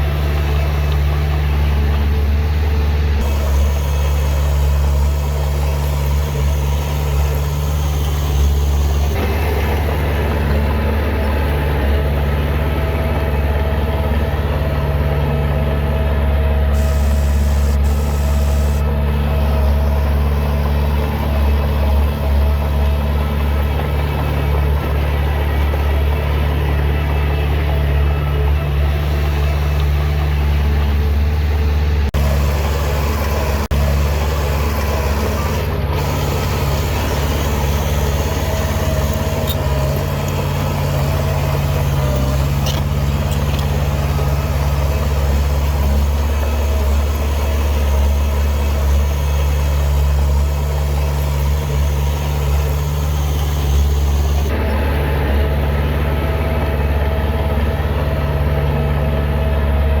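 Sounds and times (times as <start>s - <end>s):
heavy diesel engine droning: 0.0s - 60.0s.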